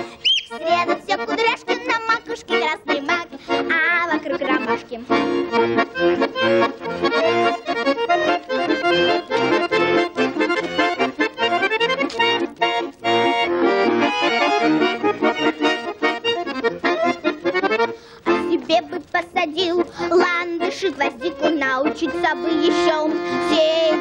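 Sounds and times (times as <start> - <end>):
accordions playing folk music: 0.0 - 24.0.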